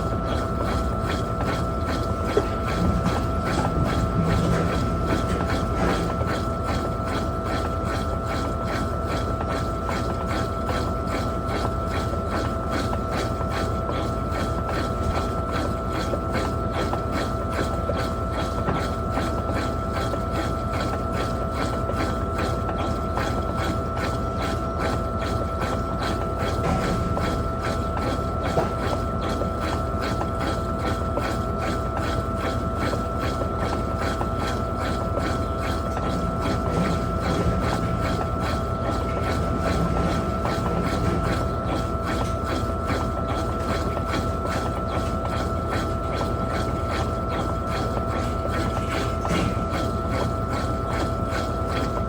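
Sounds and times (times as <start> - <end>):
washing machine rumbling: 0.0 - 52.0.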